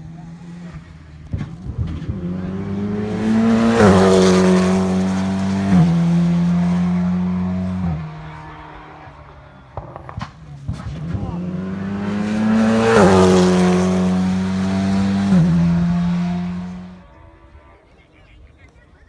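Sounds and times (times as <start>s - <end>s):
rally car engine at full throttle: 0.0s - 18.8s.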